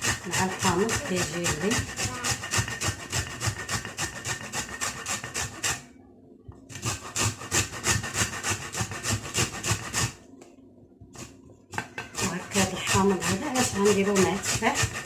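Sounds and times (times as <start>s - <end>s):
grating rind on a hand grater: 0.0s - 5.8s, 6.7s - 10.2s, 11.2s - 15.0s.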